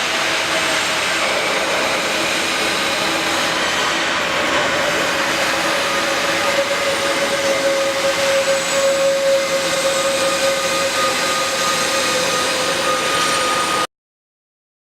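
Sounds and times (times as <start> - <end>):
industrial machinery rushing: 0.0 - 13.9
mid-pitched whine: 0.0 - 13.9.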